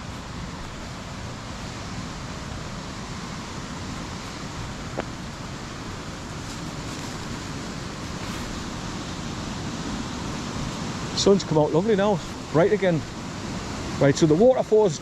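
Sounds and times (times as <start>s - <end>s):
river and waterfall rushing: 0.0s - 15.0s.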